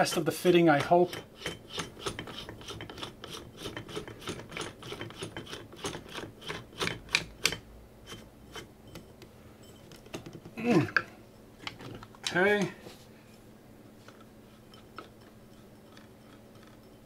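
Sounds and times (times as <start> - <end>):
hands rubbing and scraping metal: 0.0 - 8.7, 11.7 - 17.0.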